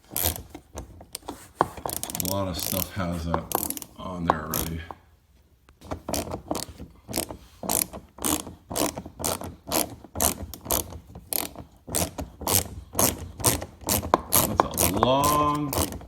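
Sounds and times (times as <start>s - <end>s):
hand ratchet clicking: 0.0s - 0.6s, 1.2s - 4.8s, 6.1s - 16.0s.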